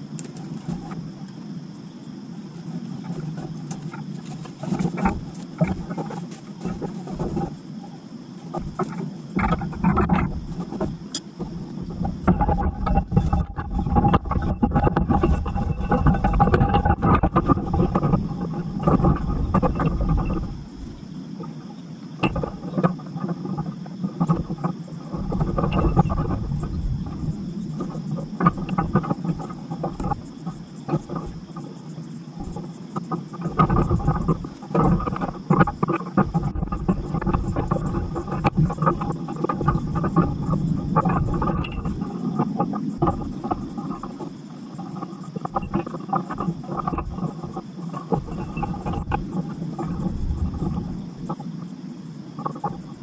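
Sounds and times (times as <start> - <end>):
vines and branches rustling and crackling: 0.0 - 53.0.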